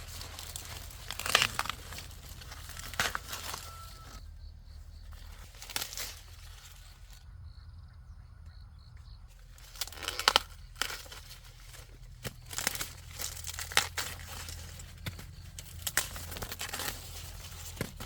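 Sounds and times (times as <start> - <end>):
dry plants rustling and crinkling: 0.0 - 18.0.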